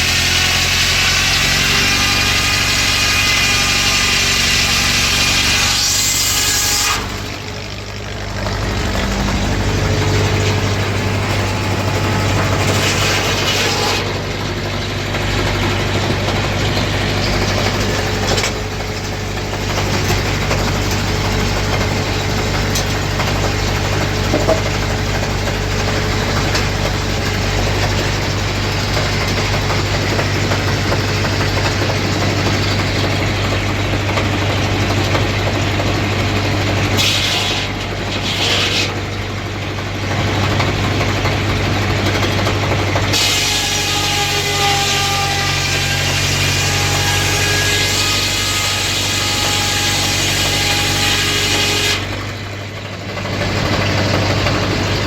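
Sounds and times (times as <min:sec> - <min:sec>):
circular saw blade whine: 0:00.0 - 0:40.5, 0:43.1 - 0:55.0
engine running steadily: 0:00.0 - 0:44.4, 0:45.5 - 0:55.0.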